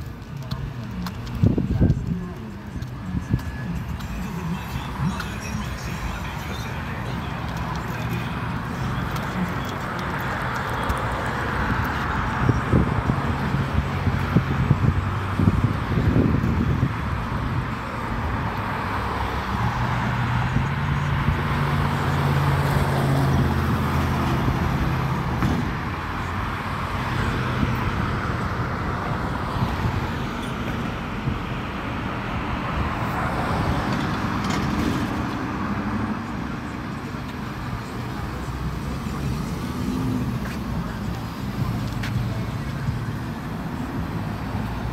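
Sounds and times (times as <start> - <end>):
cars passing: 0.0 - 44.9.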